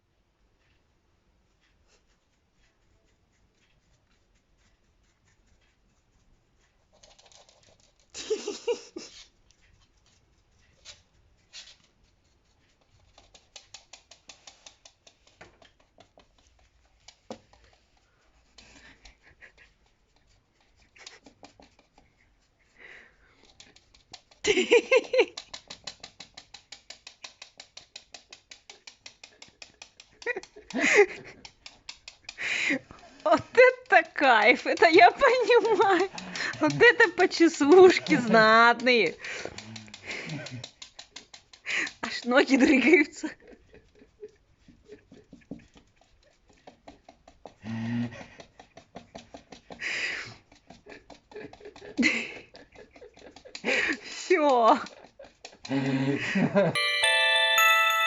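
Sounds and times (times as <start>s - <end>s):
dog leg tapping rhythmically: 1.4s - 56.7s.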